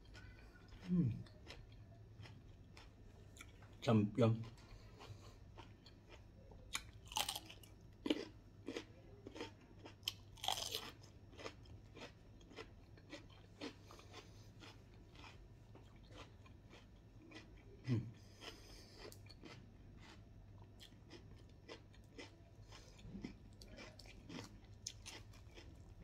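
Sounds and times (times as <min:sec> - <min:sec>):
crunching and chewing food: 0:00.0 - 0:26.0.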